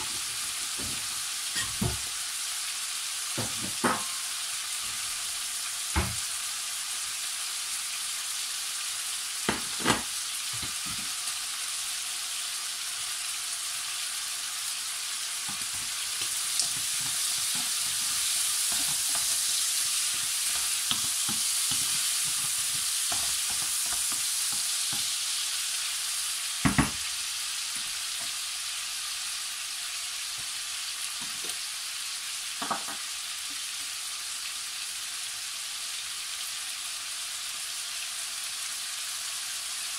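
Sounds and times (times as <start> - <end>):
meat sizzling in a frying pan: 0.0 - 39.9.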